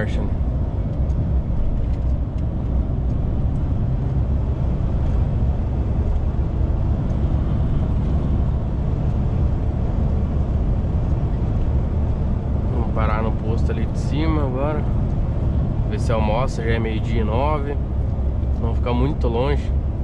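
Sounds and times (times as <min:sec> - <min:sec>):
diesel engine low drone: 0:00.0 - 0:20.0
road noise: 0:00.0 - 0:20.0.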